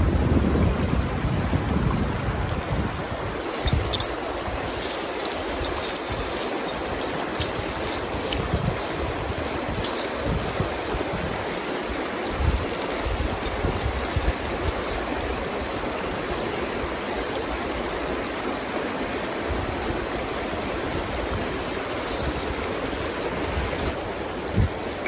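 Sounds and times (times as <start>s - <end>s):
wind buffeting microphone: 0.0s - 16.9s, 19.4s - 25.0s
river water rushing: 1.4s - 25.0s.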